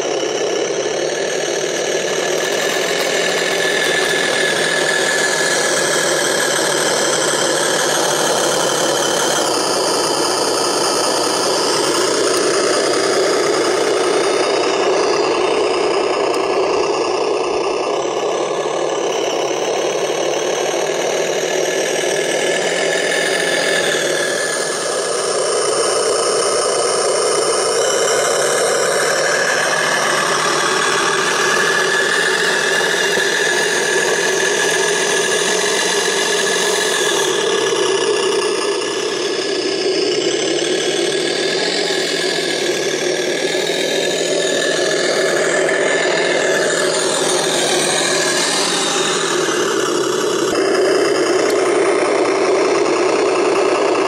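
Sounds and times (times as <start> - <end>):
toy tractor motor droning: 0.0 - 54.0.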